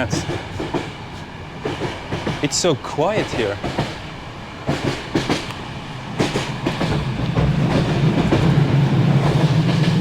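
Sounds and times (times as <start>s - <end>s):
train low rumble: 0.0s - 10.0s
train wheels clicking over joints: 0.0s - 10.0s.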